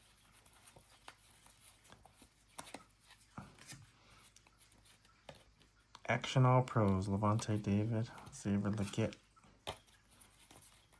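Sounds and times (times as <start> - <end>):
trading cards flipped and handled: 0.0 - 6.0, 6.7 - 10.9.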